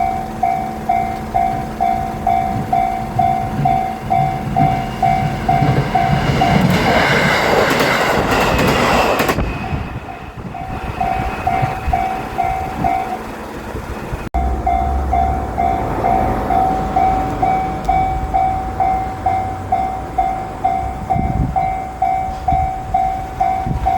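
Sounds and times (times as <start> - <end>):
electric train passing: 0.0 - 23.9
level crossing warning bell: 0.0 - 23.9.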